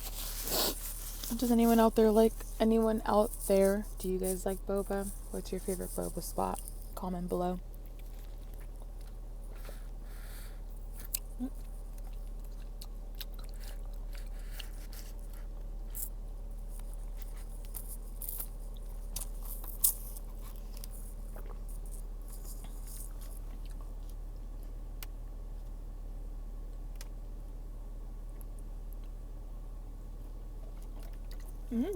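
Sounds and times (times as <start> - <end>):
chewing fried food: 0.0 - 31.9.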